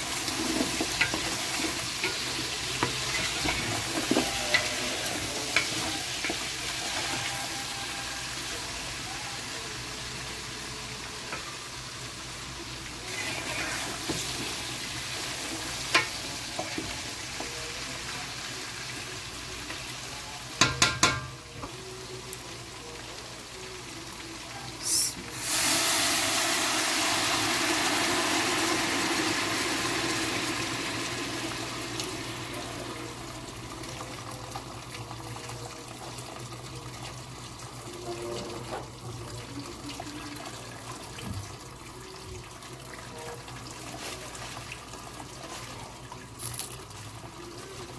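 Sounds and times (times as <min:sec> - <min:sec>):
food frying in a pot: 0:00.0 - 0:47.9.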